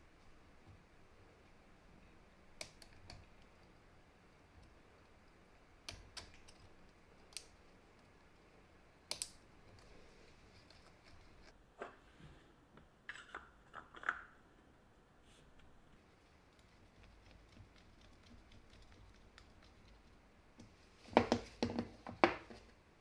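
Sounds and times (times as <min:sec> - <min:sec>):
faint room hiss: 0:00.0 - 0:23.0.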